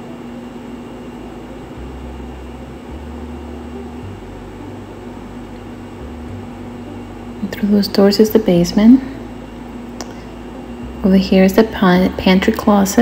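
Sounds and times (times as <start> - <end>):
mechanical hum with hiss: 0.0 - 13.0
low rumble: 1.4 - 13.0.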